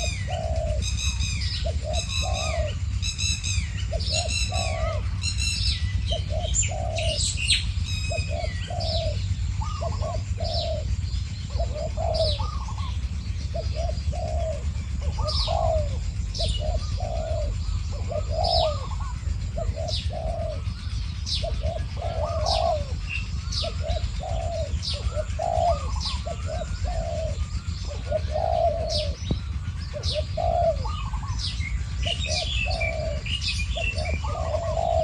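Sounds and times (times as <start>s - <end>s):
doves cooing: 0.0s - 35.0s
low rumble: 0.0s - 35.0s
small birds chirping: 0.0s - 35.0s.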